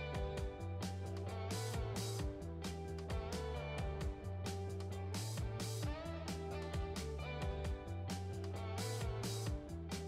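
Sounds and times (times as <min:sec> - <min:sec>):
guitar-led music with steady beat: 0:00.0 - 0:10.0.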